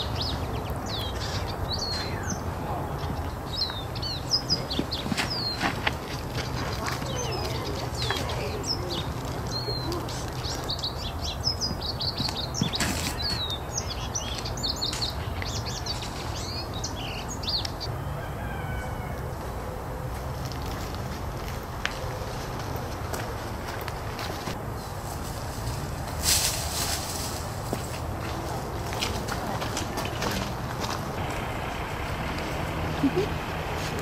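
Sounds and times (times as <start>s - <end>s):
birds chirping and chattering: 0.0s - 26.0s, 27.2s - 34.0s.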